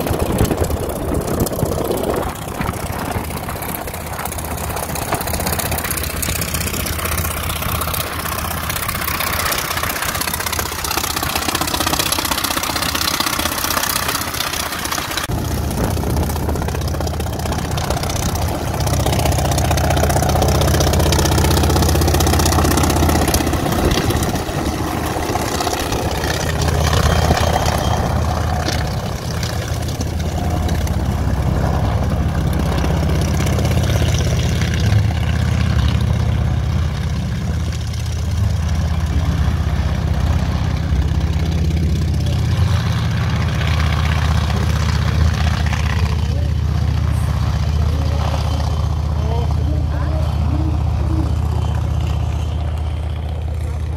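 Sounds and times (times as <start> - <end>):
helicopter piston engine running: 0.0 - 53.9.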